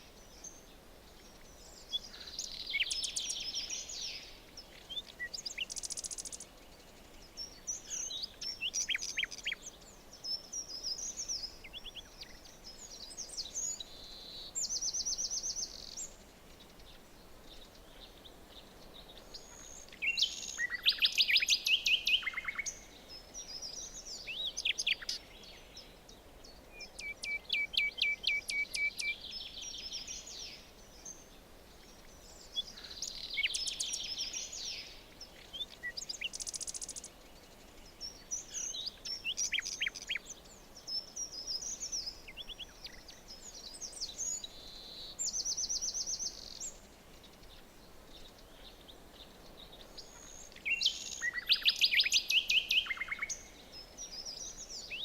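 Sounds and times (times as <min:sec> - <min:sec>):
faint background hiss: 0:00.0 - 0:55.0
songbirds singing: 0:00.0 - 0:55.0.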